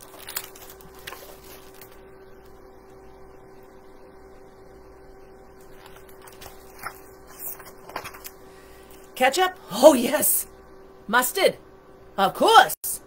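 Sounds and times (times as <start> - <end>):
steady hum with constant tone: 0.0 - 13.0.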